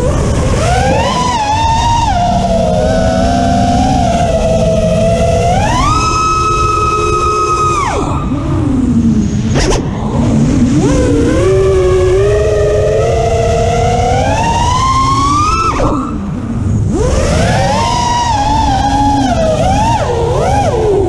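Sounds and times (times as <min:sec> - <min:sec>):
drone motors whining: 0:00.0 - 0:21.0
wind on microphone: 0:00.0 - 0:21.0.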